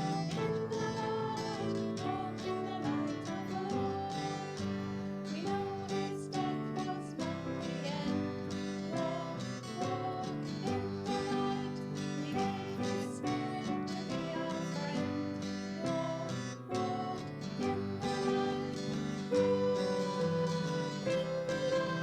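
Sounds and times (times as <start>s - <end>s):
person singing a hymn: 0.0s - 22.0s
strummed acoustic guitar: 0.0s - 22.0s.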